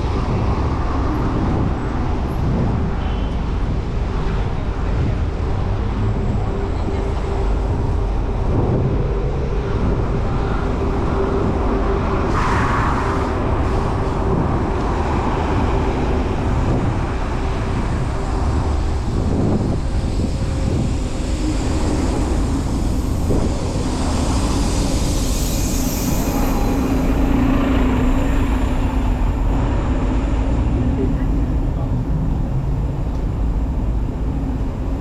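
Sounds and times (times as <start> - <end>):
city street traffic: 0.0 - 35.0
steady low rumble: 0.0 - 35.0
vehicle engine hum: 0.0 - 35.0.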